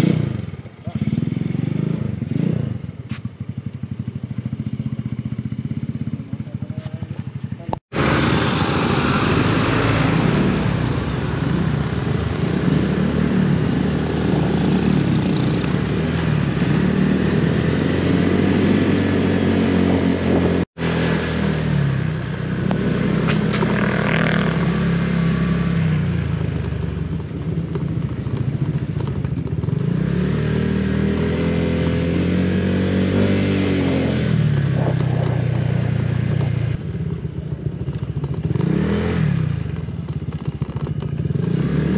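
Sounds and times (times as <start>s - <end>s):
road noise: 0.0s - 41.9s
scooter engine revving: 0.0s - 41.9s.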